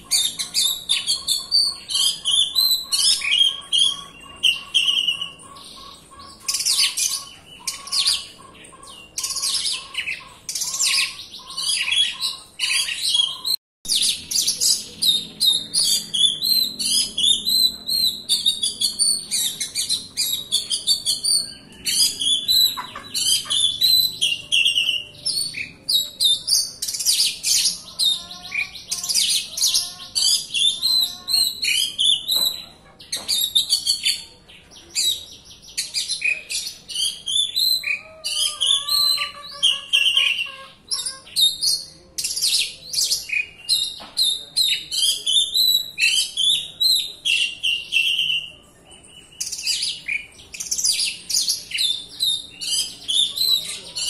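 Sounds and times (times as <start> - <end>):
bird singing: 0.0 - 54.0.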